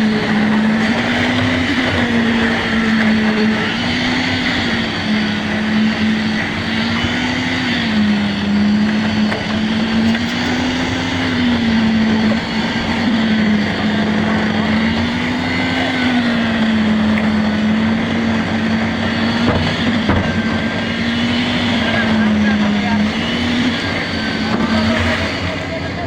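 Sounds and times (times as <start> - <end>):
constant rushing noise: 0.0 - 26.0
motor humming: 0.0 - 26.0.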